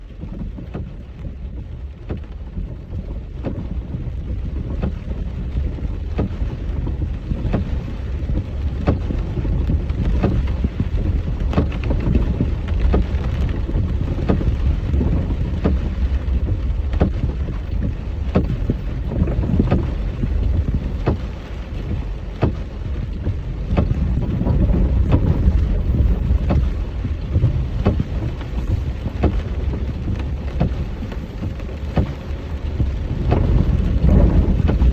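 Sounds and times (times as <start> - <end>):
rain: 0.0 - 34.9
raindrops tapping near microphone: 0.0 - 34.9
wind buffeting microphone: 0.2 - 34.9.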